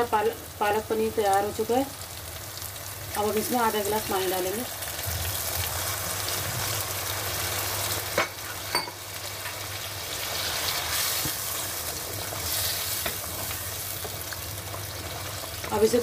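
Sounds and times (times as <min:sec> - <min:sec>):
gravy sizzling and bubbling in a pan: 0:00.0 - 0:16.0.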